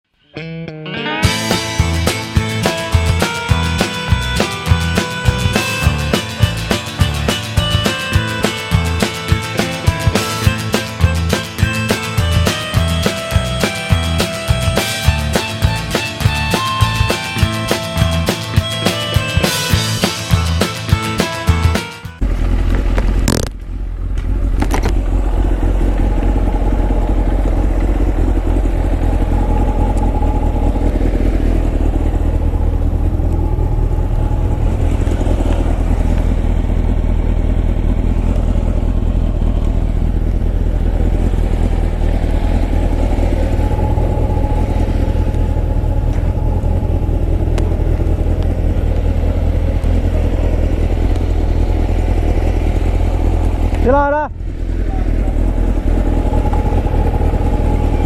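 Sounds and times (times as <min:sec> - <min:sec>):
motorcycle engine running: 0:01.2 - 0:58.0.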